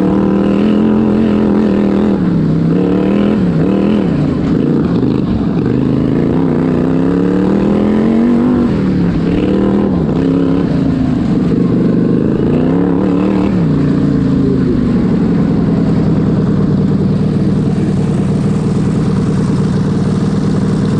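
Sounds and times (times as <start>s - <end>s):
tractor engine revving: 0.0s - 20.9s.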